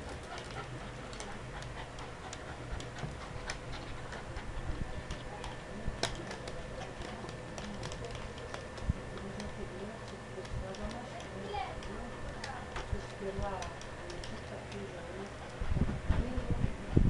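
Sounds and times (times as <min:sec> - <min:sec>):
dog claws clicking on floor: 0:00.0 - 0:04.2, 0:05.0 - 0:15.4.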